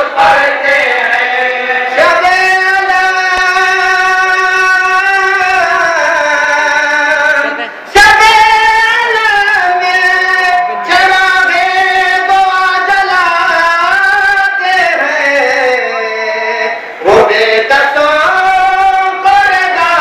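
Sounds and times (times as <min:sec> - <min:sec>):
group singing unaccompanied: 0:00.0 - 0:20.0.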